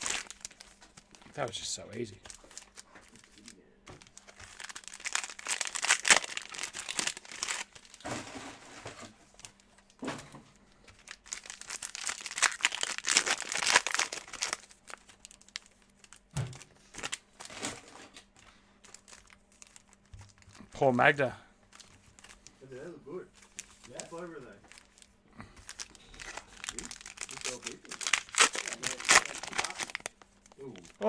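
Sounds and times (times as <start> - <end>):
plastic wrapper crinkling: 0.0 - 8.3, 8.9 - 10.0, 10.8 - 31.0.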